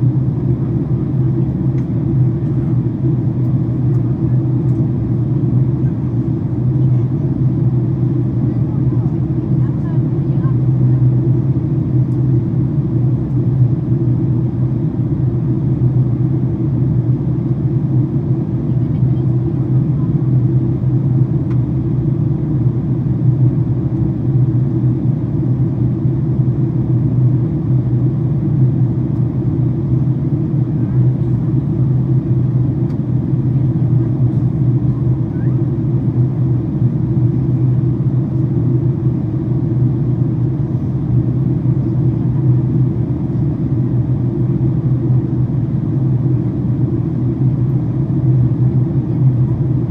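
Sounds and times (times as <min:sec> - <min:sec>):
airplane cabin engine rumble: 0:00.0 - 0:49.9.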